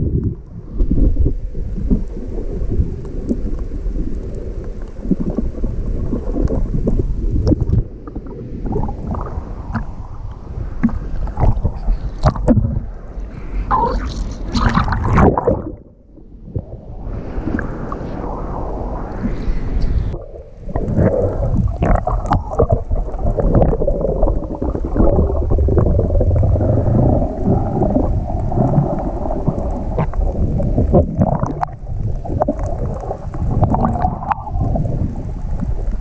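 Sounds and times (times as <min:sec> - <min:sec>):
wind buffeting microphone: 0:00.0 - 0:03.0, 0:05.1 - 0:36.0
surf churning and splashing: 0:00.0 - 0:36.0.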